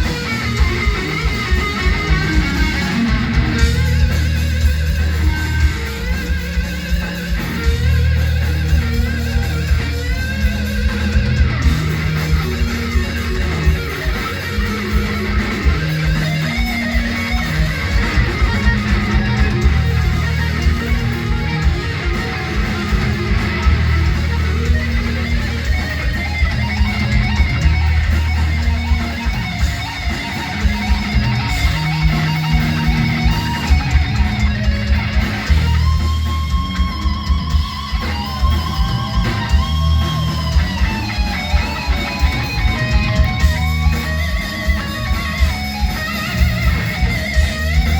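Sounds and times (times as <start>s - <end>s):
electric guitar solo: 0.0s - 47.9s
fast drumming: 0.0s - 47.9s
repeating bass line: 0.0s - 47.9s.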